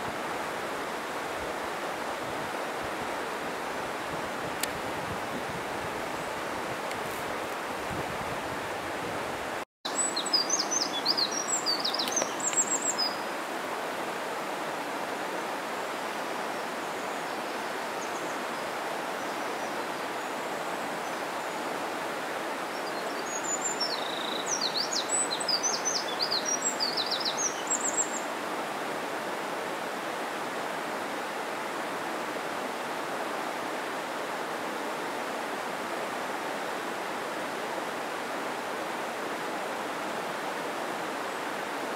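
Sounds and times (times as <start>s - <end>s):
mountain stream rushing: 0.0s - 41.9s.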